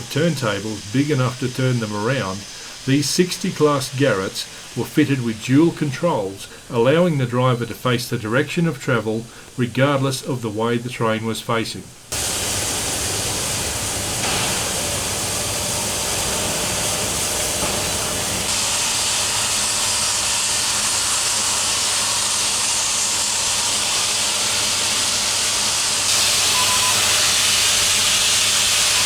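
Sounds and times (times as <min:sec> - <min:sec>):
steam locomotive venting steam: 0:00.0 - 0:09.6, 0:12.1 - 0:29.0.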